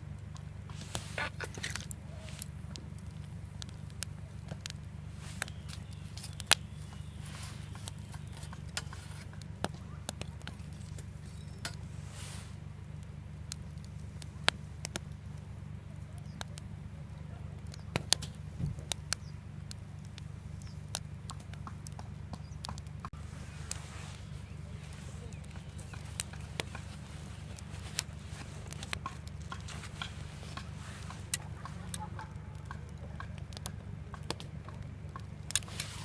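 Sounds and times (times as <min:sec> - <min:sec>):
steady low hum: 0:00.0 - 0:36.0
wood fire crackling and popping: 0:00.0 - 0:36.0.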